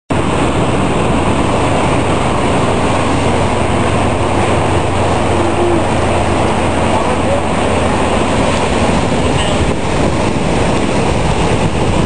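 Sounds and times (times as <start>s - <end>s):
ocean surf breaking on sand: 0.1s - 12.0s.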